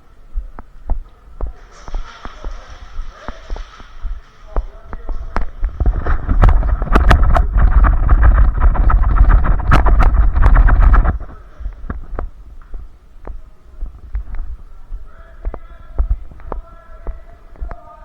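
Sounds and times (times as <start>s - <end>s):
heavy rumbling and clattering: 1.4s - 17.8s.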